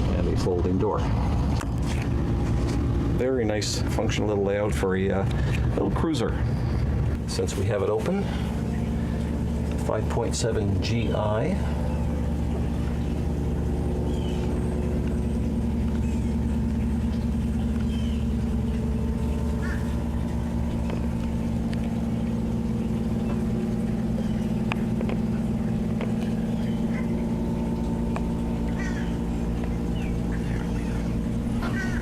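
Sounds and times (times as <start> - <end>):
boat engine idling: 0.0 - 32.0
birds chirping: 3.4 - 32.0.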